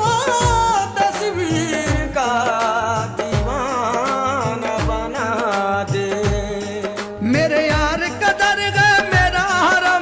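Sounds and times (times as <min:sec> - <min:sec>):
low drum beat: 0:00.0 - 0:10.0.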